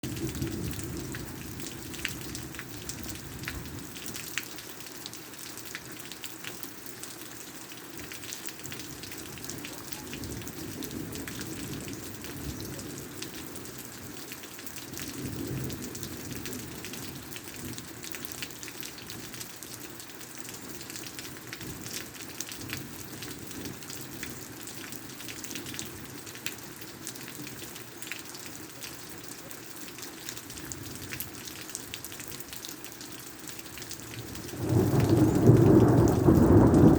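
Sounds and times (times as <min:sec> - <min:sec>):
raindrops ticking close by: 0:00.0 - 0:36.9
steady rain hiss: 0:00.0 - 0:36.9.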